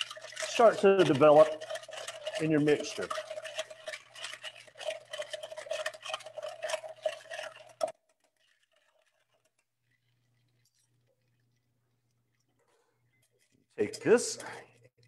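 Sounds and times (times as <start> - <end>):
ice clinking in metal tin: 0.0 - 11.4, 12.7 - 14.9.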